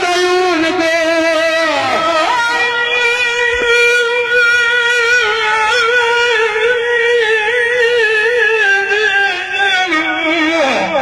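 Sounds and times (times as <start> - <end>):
amplified voice singing long note: 0.0 - 11.0.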